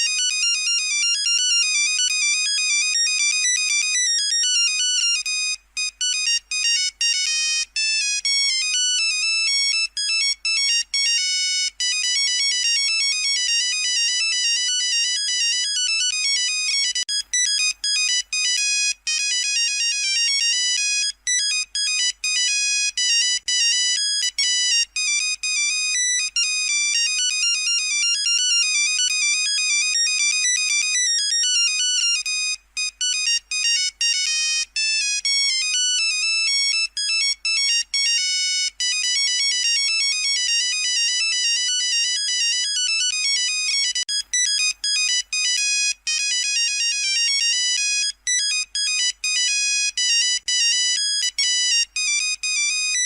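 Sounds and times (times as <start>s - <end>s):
monophonic ringtone melody: 0.0s - 53.0s.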